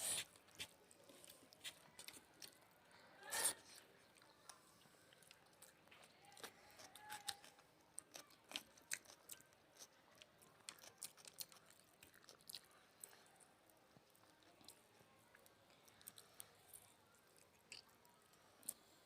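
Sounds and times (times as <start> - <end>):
people chewing and eating: 0.0 - 19.0.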